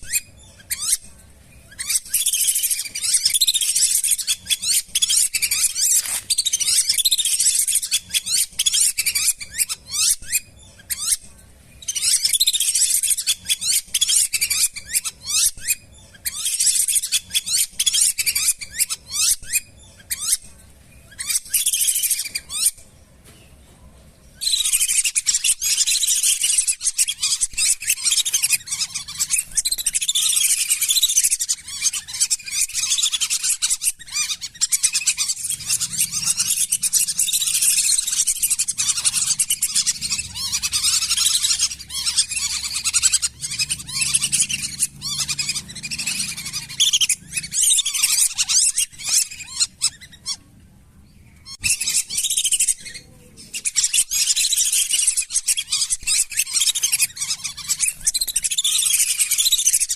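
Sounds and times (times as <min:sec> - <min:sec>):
ducks whistling calls: 0:01.6 - 0:11.2, 0:11.8 - 0:20.4, 0:24.4 - 0:50.5, 0:51.4 - 0:59.9.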